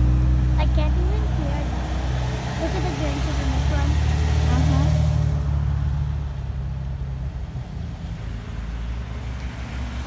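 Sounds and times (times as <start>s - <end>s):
vehicle engines rumbling past: 0.0s - 10.0s.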